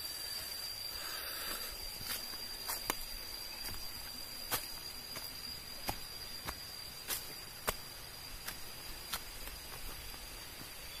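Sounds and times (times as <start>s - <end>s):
footsteps on dry leaves and twigs: 1.4s - 11.0s.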